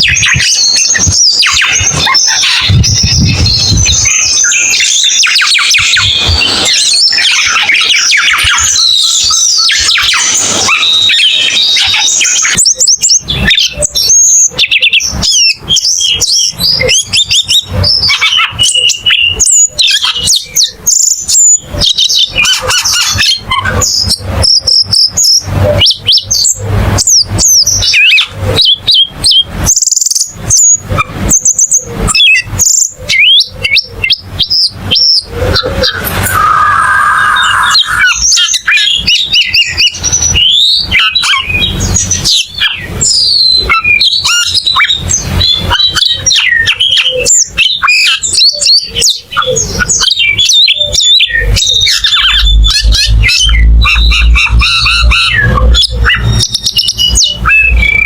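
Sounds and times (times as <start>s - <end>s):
songbird chirping and whistling: 0.0s - 58.0s.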